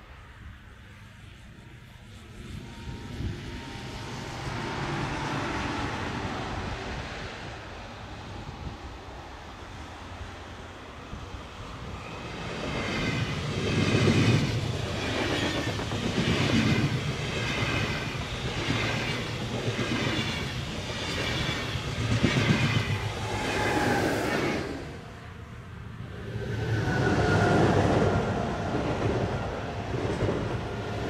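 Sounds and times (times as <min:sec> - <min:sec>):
train passing on rails: 0:00.0 - 0:31.0.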